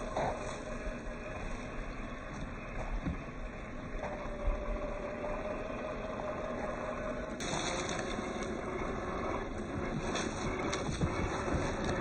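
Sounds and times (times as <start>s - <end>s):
electric motor and gear whine: 0.0s - 12.0s.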